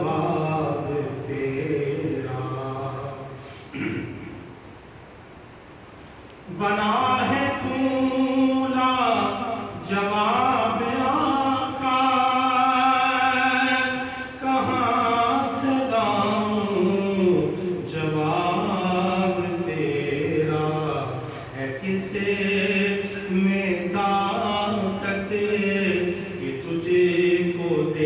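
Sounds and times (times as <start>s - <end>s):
man singing unaccompanied: 0.0s - 3.9s, 6.5s - 28.0s.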